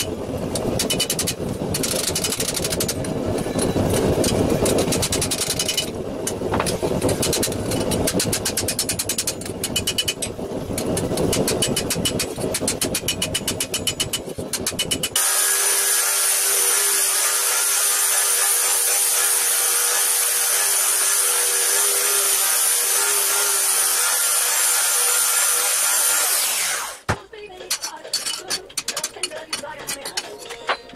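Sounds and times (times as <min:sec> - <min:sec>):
belt grinder grinding steel: 0:00.6 - 0:30.8.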